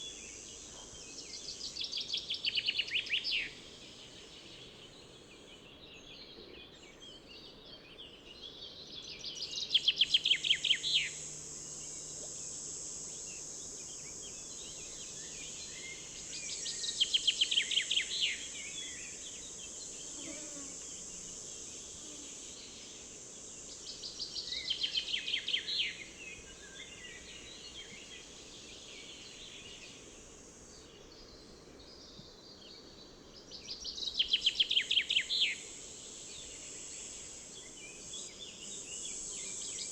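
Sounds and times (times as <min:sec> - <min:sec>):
steady high hiss: 0:00.0 - 0:07.4, 0:08.1 - 0:39.9.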